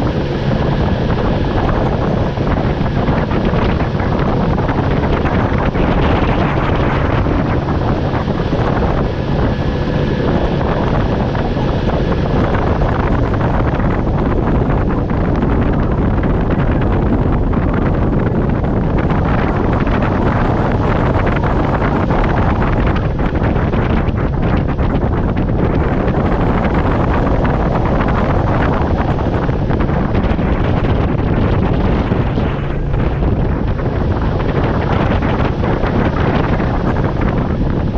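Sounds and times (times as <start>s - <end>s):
hull moving through water: 0.0s - 37.9s
outboard motor running: 0.0s - 37.9s
wind buffeting microphone: 0.0s - 37.9s.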